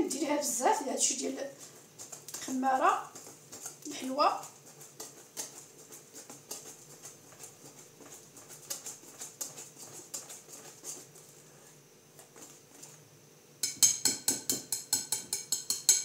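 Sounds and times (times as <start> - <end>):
spatula beating batter: 0.0 - 16.0
batter squishing in bowl: 0.1 - 13.2.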